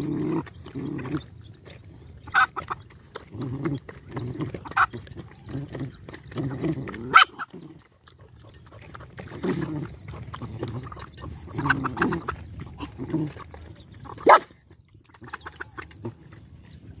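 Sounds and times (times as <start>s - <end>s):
dogs eating from metal bowl: 0.0s - 17.0s
dogs growling: 0.0s - 17.0s.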